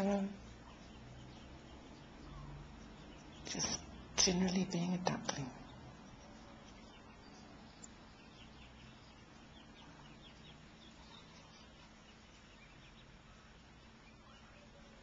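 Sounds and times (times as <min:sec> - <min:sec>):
ducklings peeping: 0:00.0 - 0:15.0
low steady hum: 0:00.0 - 0:15.0.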